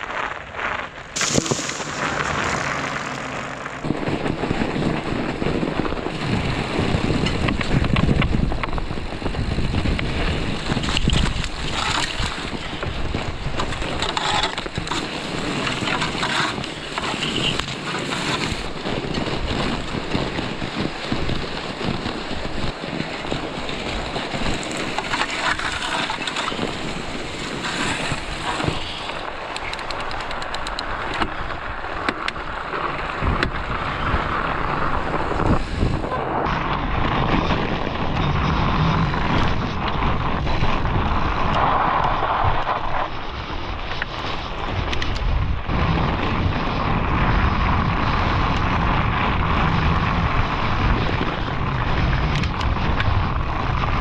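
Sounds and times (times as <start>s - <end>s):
scattered crackles: 0.0s - 54.0s
tyres rolling on snow: 0.0s - 54.0s
wind rushing on microphone: 0.0s - 54.0s.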